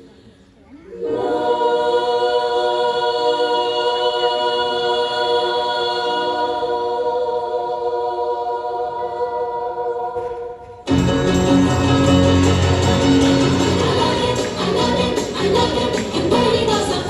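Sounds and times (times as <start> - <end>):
choir singing sustained chord: 0.9 - 17.0.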